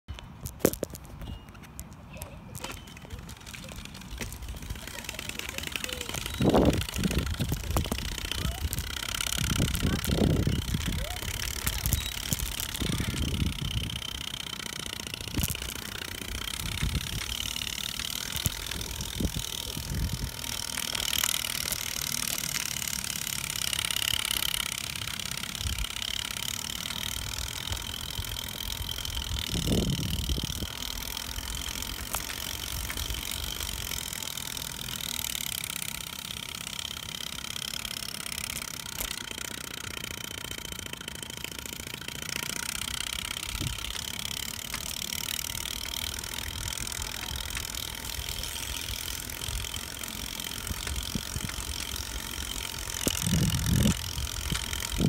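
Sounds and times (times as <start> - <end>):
wind and handling rumble: 0.1 - 55.0.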